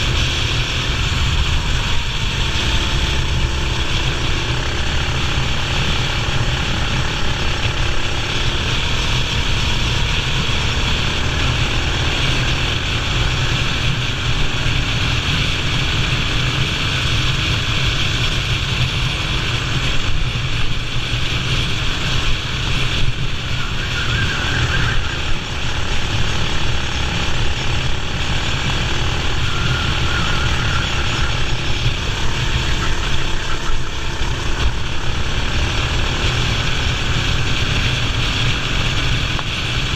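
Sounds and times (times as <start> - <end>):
kart engine running hard: 0.0 - 39.9
wind rumble on microphone: 0.0 - 39.9.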